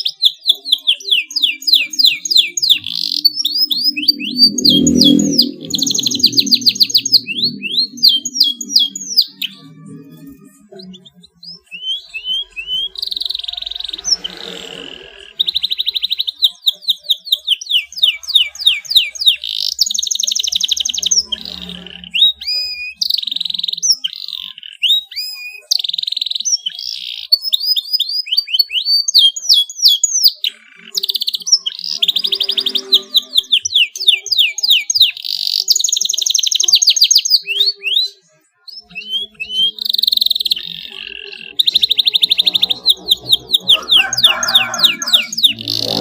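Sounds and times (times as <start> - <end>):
canary singing trills: 0.0 - 46.0.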